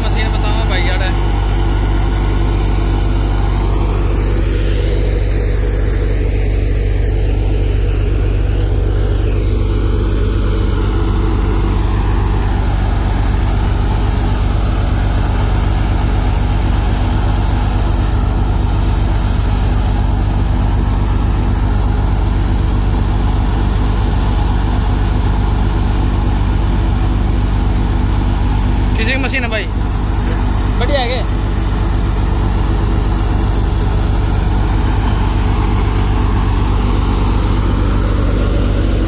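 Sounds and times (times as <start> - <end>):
low engine note: 0.0 - 39.0
thresher running under load: 0.0 - 39.0.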